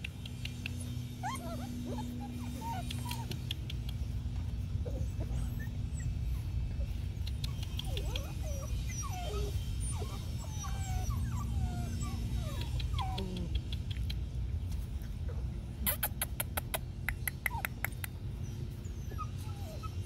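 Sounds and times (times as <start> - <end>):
puppies whimpering and yipping: 0.1 - 14.3, 14.9 - 20.0.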